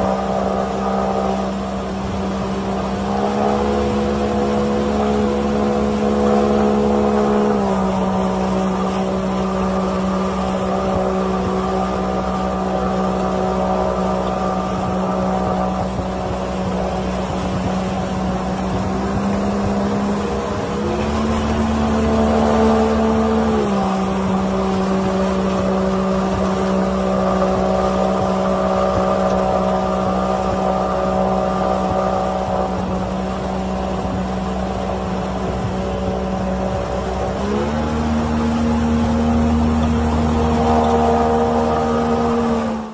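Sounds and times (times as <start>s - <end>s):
water rushing and splashing: 0.0s - 42.9s.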